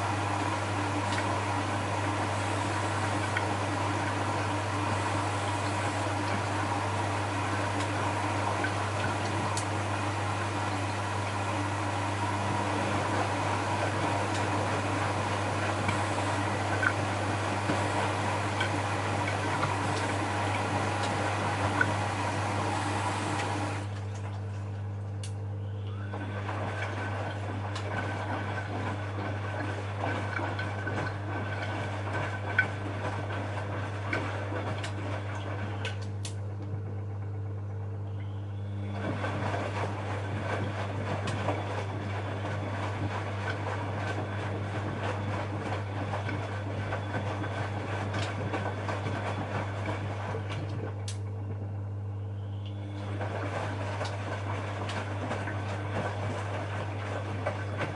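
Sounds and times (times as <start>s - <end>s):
washing machine hum: 0.0s - 57.9s.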